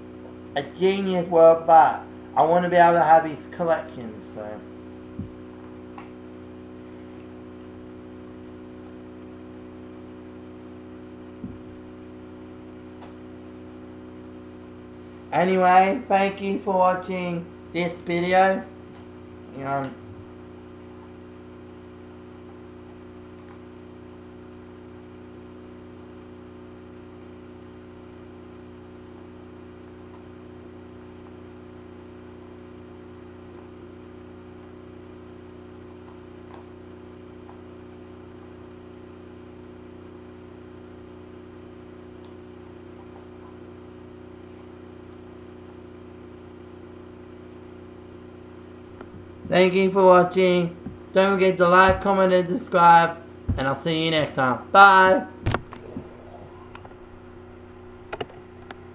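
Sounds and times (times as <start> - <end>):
low electrical hum: 0.0 - 58.9.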